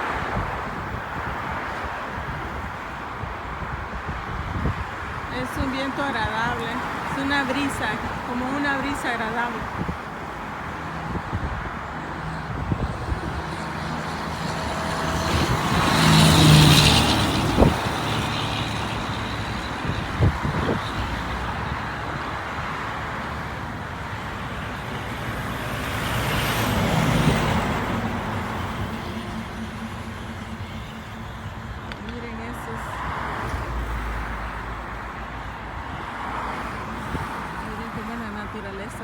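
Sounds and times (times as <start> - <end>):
background traffic noise: 0.0 - 39.0
vehicles passing: 0.0 - 39.0.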